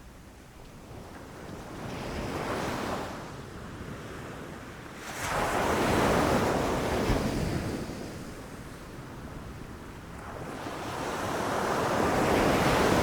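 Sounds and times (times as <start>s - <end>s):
wind on microphone: 0.2s - 13.0s.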